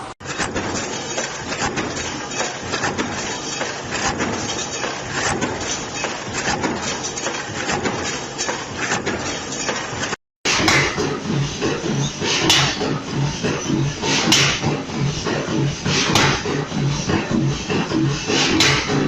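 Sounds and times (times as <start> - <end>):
machinery running: 0.0 - 19.0
metal clanks and knocks: 0.2 - 19.0.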